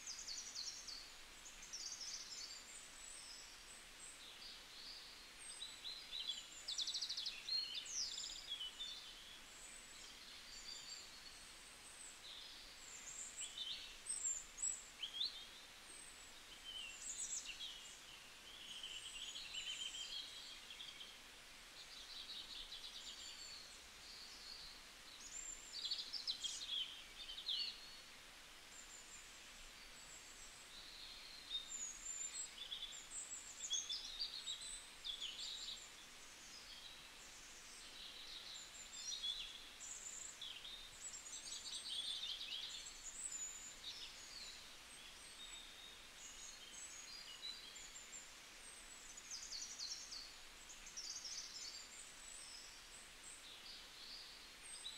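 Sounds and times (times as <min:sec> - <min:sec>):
faint hiss: 0:00.0 - 0:54.9.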